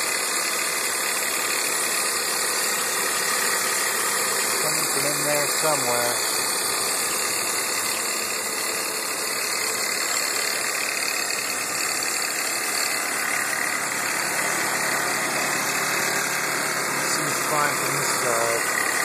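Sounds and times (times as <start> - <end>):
car engine idling roughly: 0.0 - 19.0.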